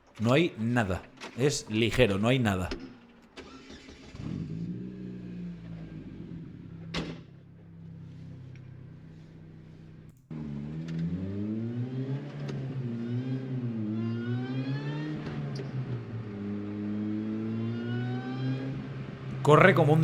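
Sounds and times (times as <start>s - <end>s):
car engine idling and revving: 3.4s - 20.0s.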